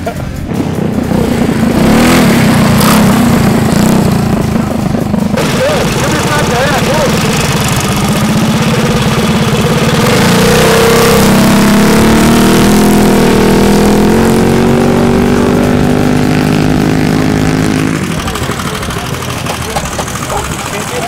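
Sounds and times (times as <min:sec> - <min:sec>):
minibike engine revving: 0:00.0 - 0:21.0.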